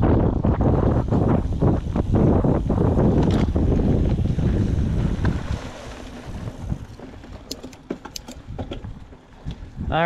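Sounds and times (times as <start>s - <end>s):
bike rattling on trail: 0.0s - 9.8s
wind buffeting microphone: 0.0s - 10.0s.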